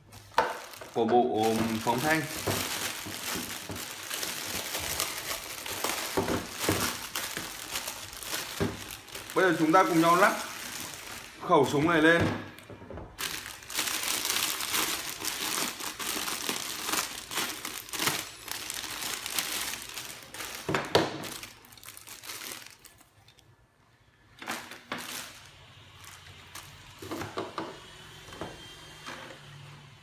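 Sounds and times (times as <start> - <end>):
plastic packaging crinkling: 0.0 - 12.2, 13.1 - 23.4, 24.4 - 27.3.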